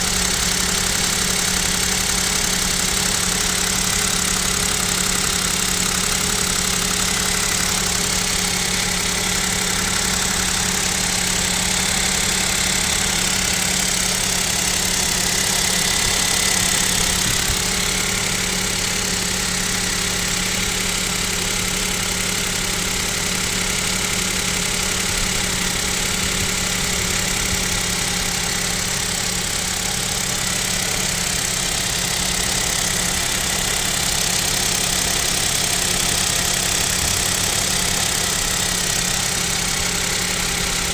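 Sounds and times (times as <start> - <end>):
petrol engine idling with knock: 0.0 - 40.9.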